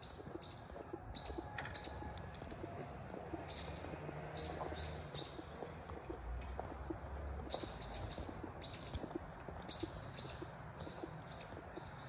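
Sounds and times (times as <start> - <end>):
small bird chirping: 0.0 - 2.2, 3.3 - 12.0
faint low ticks: 0.0 - 12.0.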